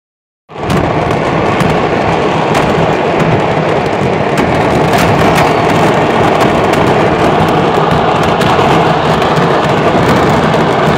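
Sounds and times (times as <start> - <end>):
fireworks crackling and bangs: 0.5 - 10.9.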